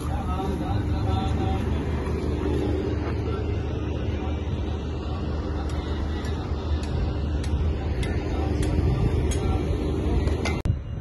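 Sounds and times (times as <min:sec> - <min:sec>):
construction site rumble: 0:00.0 - 0:11.0.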